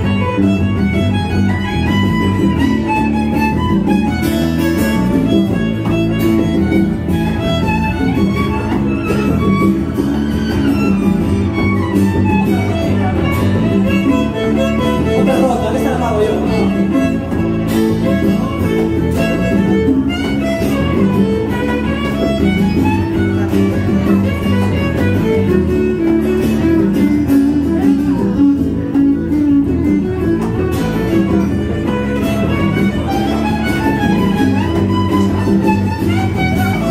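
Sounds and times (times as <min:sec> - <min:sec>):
bowed violin lead: 0:00.0 - 0:36.9
congas: 0:00.0 - 0:36.9
electric bass: 0:00.0 - 0:36.9
guitar: 0:00.0 - 0:36.9.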